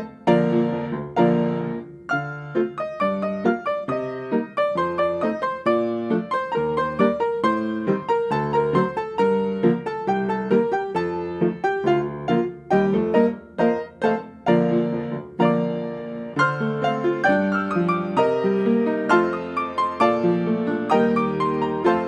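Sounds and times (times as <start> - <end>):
solo piano music: 0.0 - 22.0.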